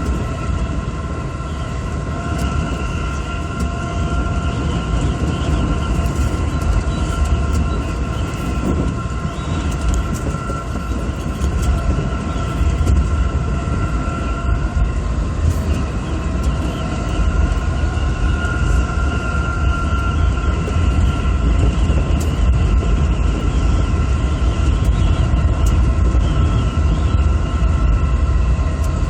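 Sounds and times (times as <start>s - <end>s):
faint train whines: 0.0s - 29.0s
train wheels rumbling on rail: 0.0s - 29.0s.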